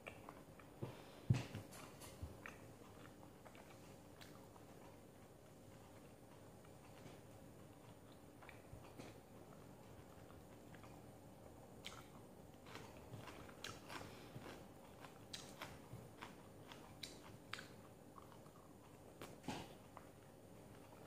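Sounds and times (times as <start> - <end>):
chewing crisp vegetables: 0.0 - 21.0.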